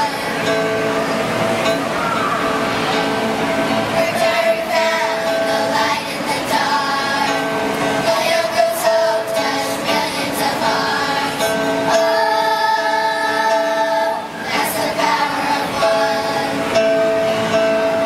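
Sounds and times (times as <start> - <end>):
children's choir singing: 0.0 - 18.0.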